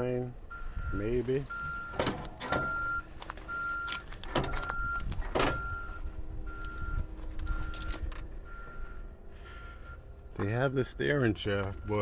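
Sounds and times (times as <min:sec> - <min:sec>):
vehicle reversing alarm beeping: 0:00.4 - 0:12.0.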